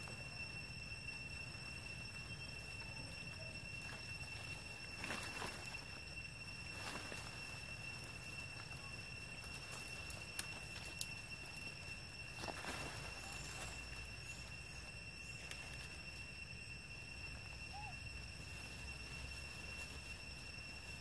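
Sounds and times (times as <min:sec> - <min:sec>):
high-pitched whine: 0:00.0 - 0:21.0
monkeys rustling leaves: 0:00.0 - 0:21.0.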